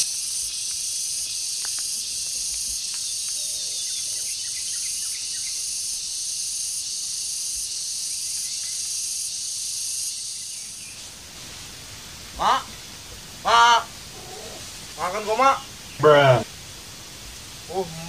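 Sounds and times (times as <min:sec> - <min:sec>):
insects buzzing drone: 0:00.0 - 0:18.0.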